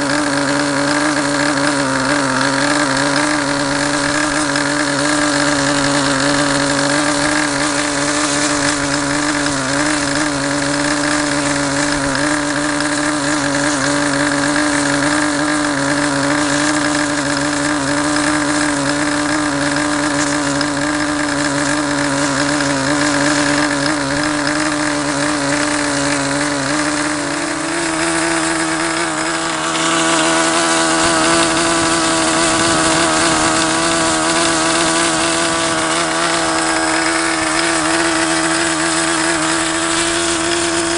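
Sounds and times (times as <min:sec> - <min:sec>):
model glow engine running: 0:00.0 - 0:40.9.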